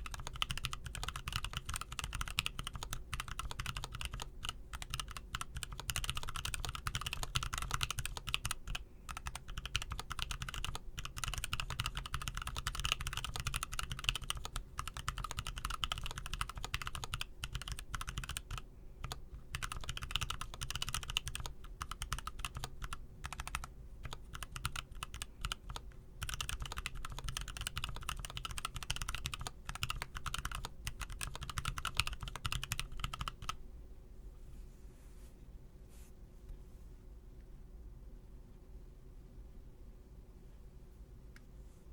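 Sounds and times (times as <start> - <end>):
fast typing on mechanical keyboard: 0.0 - 33.6
low steady background hum: 0.0 - 41.9.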